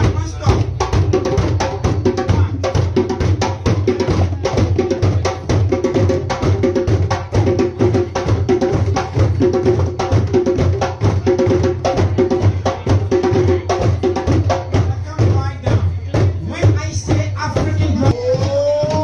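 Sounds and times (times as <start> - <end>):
fast busy drumming: 0.0 - 19.0.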